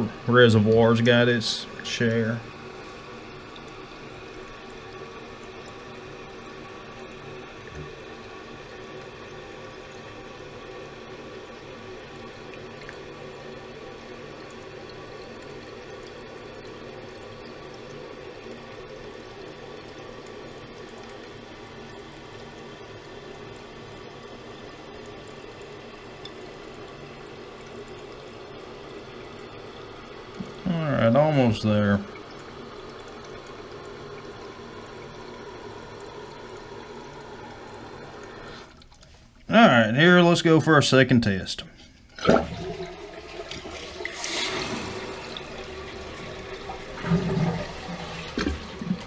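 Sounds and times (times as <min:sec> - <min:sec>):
water rushing into toilet tank: 0:00.0 - 0:40.3, 0:42.1 - 0:49.0.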